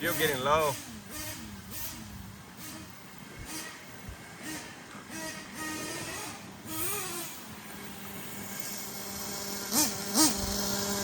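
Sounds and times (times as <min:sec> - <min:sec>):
model truck nitro engine revving: 0:00.0 - 0:11.0.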